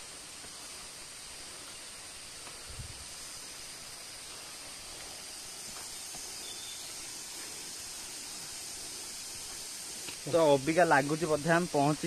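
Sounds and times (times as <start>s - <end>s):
forest background hiss: 0.0s - 12.0s.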